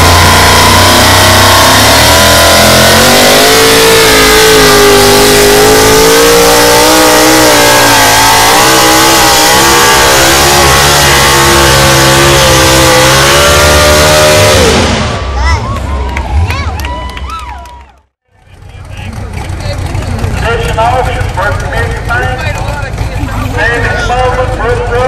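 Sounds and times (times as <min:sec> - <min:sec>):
tractor engine at full throttle: 0:00.0 - 0:16.7, 0:18.2 - 0:25.0.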